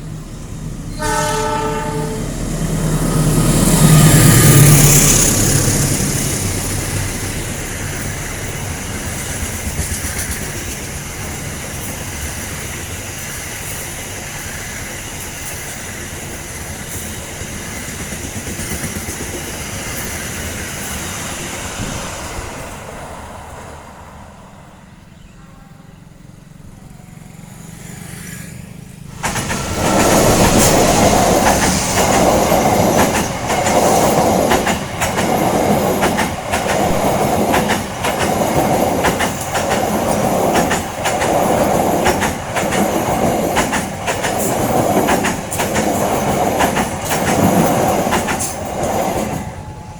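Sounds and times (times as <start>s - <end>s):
passenger train rumble: 0.0s - 49.9s.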